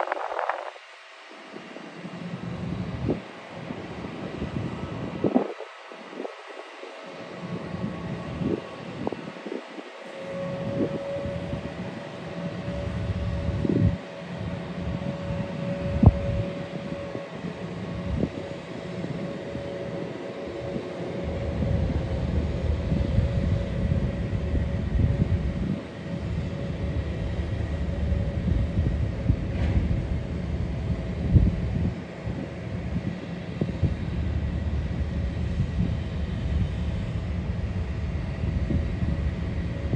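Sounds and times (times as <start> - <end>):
jet engines rumbling: 0.0 - 39.9
wind gusting on microphone: 0.0 - 39.9.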